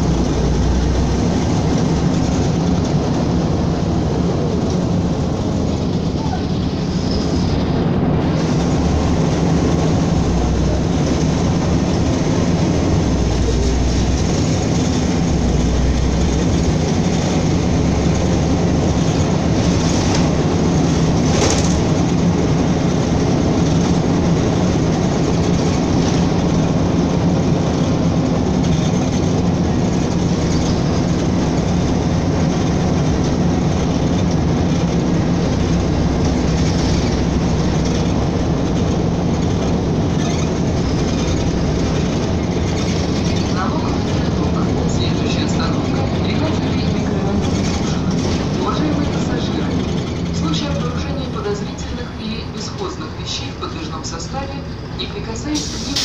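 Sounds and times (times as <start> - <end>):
bus engine hum: 0.0 - 56.0
road and body noise: 0.0 - 56.0.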